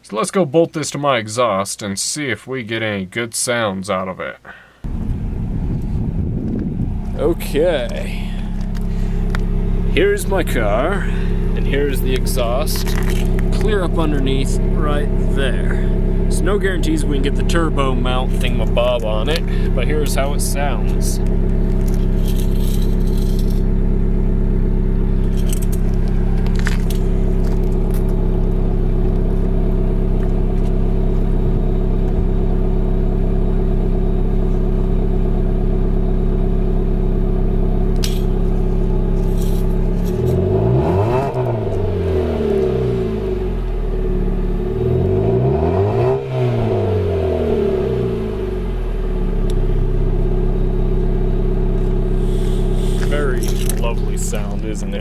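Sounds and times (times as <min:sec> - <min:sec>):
car engine idling: 0:04.8 - 0:55.0
car engine revving: 0:04.9 - 0:55.0.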